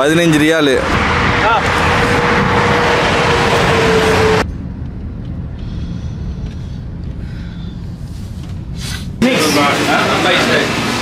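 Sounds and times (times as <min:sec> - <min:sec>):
car driving rumble: 0:00.0 - 0:09.9
traffic hum: 0:00.0 - 0:11.0.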